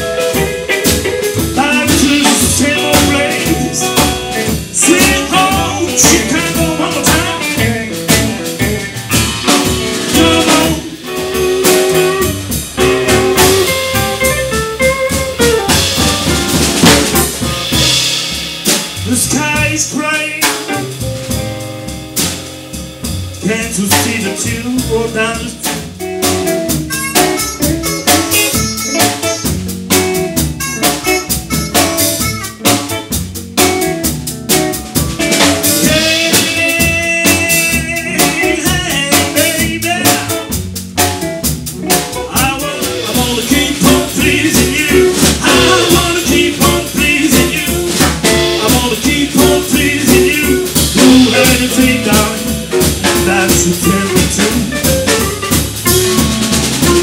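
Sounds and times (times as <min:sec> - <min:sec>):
double bass: 0:00.0 - 0:57.0
drum kit beat: 0:00.0 - 0:57.0
electric guitar: 0:00.0 - 0:57.0.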